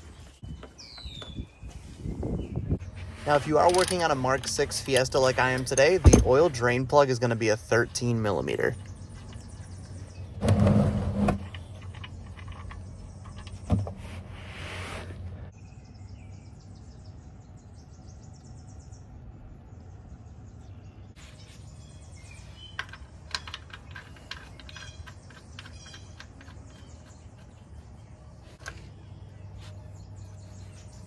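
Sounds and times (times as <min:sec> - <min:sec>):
birds chirping: 0:00.0 - 0:14.5, 0:15.4 - 0:31.0.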